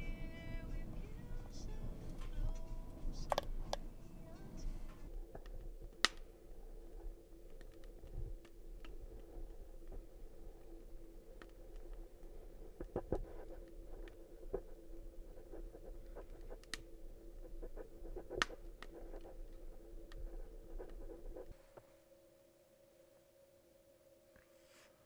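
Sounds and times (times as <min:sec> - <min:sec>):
steady low hum: 0:00.0 - 0:24.3
small clicks and crackles: 0:00.3 - 0:21.9.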